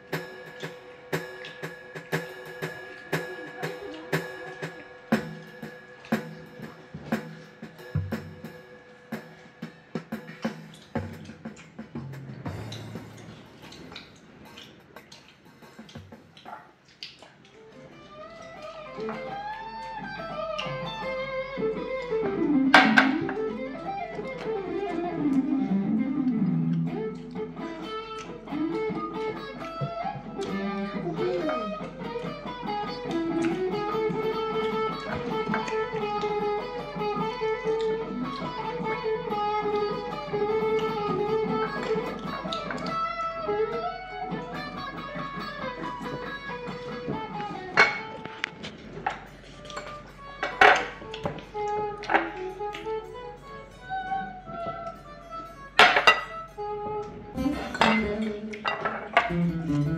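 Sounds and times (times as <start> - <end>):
guitar melody with bending notes: 0.0 - 14.6, 17.6 - 59.9.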